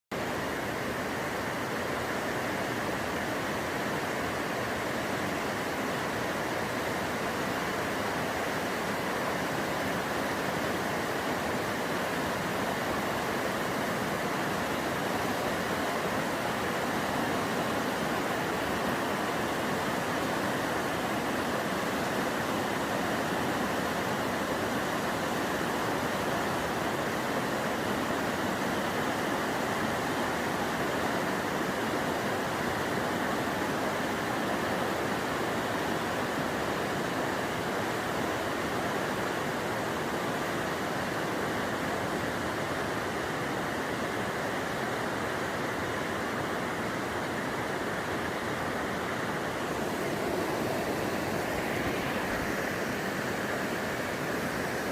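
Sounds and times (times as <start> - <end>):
river water rushing: 0.2 - 54.9.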